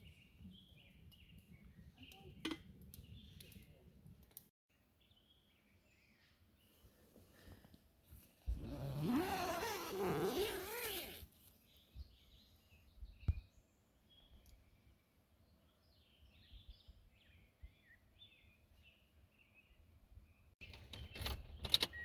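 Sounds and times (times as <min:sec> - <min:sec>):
small birds chirping: 0:00.0 - 0:03.8, 0:05.0 - 0:22.0.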